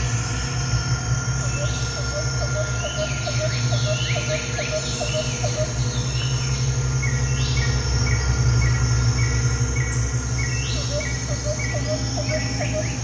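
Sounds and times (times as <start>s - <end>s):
insect chirping: 0.0s - 13.0s
steady low hum: 0.0s - 13.0s
bird calls: 1.3s - 13.0s.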